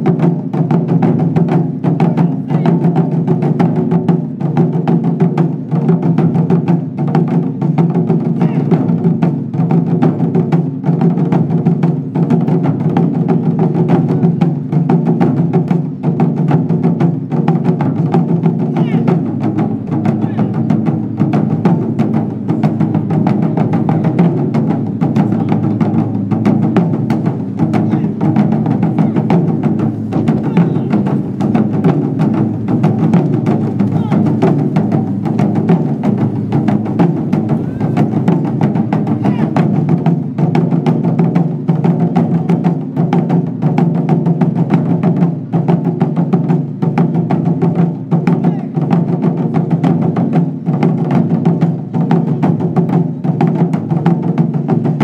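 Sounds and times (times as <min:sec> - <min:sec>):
taiko drums beaten with sticks: 0:00.0 - 0:55.0.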